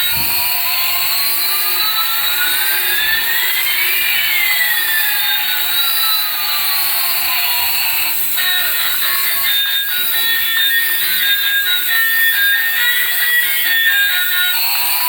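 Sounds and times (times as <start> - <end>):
whooshing hiss with whistling tone: 0.0 - 15.0.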